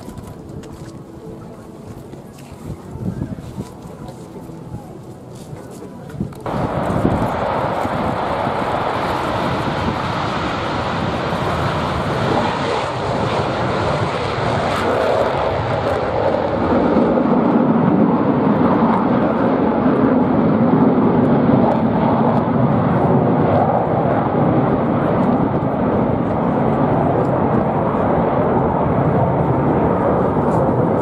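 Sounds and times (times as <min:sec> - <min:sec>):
jet engines roaring on takeoff: 0:00.0 - 0:31.0.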